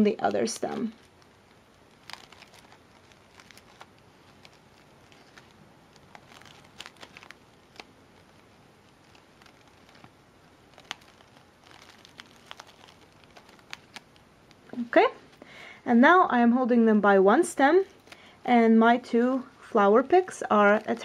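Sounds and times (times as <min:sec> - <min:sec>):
fabric petals rustling: 0:00.0 - 0:15.4, 0:19.2 - 0:21.0.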